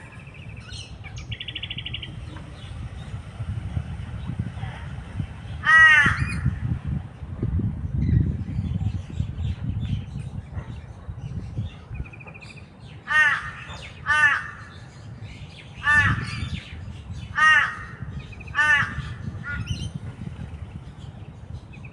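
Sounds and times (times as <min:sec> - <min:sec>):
steady low rumble: 0:00.0 - 0:21.9.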